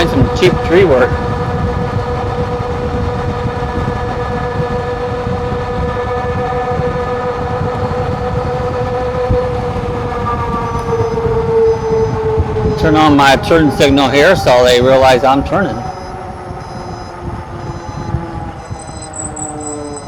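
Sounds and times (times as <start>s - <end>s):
electric motor whining: 0.0s - 20.0s
wind rumble on microphone: 0.0s - 20.0s.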